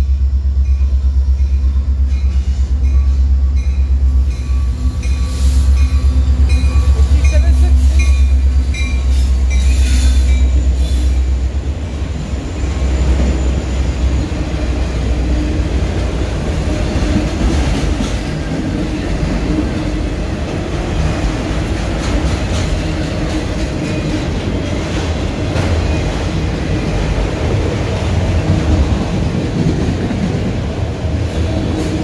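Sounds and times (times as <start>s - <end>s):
deep locomotive engine drone: 0.0s - 32.0s
train wheels rumbling on rail: 0.0s - 32.0s.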